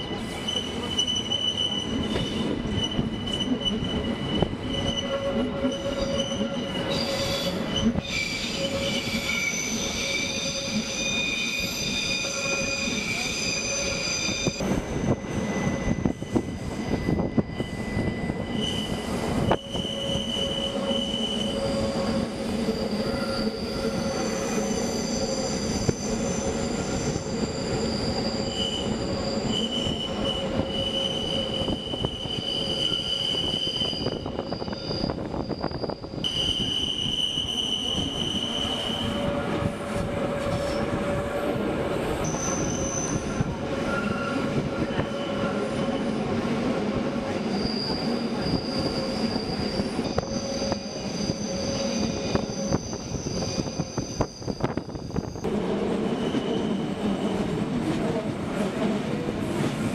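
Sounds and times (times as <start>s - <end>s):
train wheels squealing: 0.0s - 57.8s.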